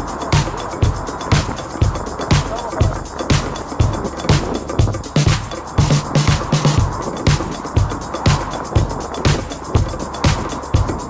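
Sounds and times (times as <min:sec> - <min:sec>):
hi-hat ticks: 0:00.0 - 0:11.0
low kick drum: 0:00.0 - 0:11.0.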